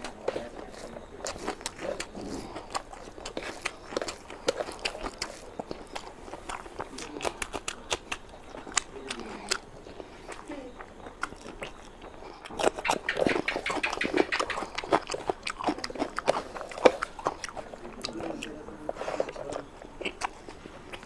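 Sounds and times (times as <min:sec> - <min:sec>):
chewing with wet mouth clicks: 0:00.0 - 0:21.0.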